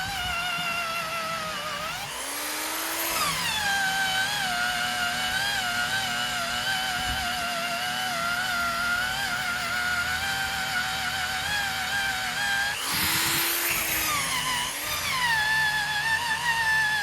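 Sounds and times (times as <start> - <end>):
drill whining: 0.0 - 17.0.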